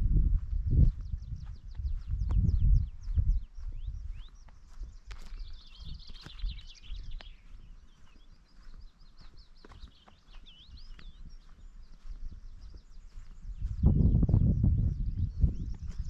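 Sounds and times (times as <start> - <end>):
wind rumble on microphone: 0.0 - 16.0
small birds chirping: 0.4 - 16.0.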